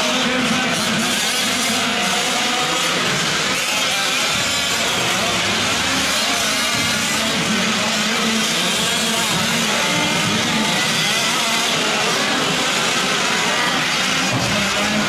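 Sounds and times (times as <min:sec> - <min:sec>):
rc truck engines racing: 0:00.0 - 0:15.0.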